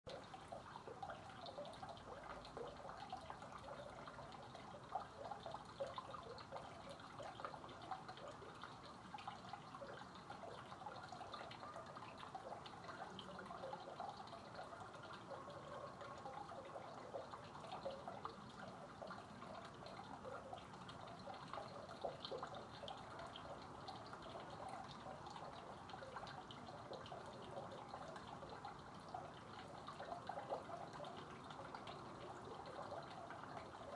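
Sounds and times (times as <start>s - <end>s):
fountain water trickling into pool: 0.0s - 33.9s.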